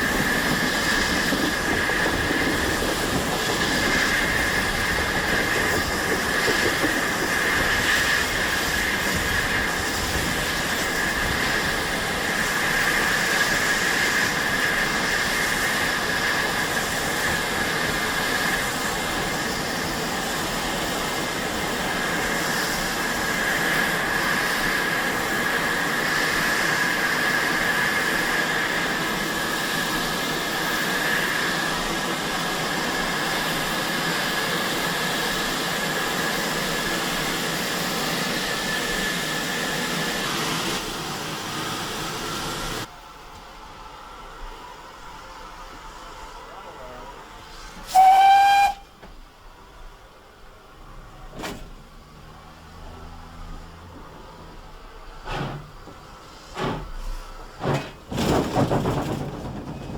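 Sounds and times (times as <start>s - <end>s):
train ride rushing noise: 0.0s - 59.9s.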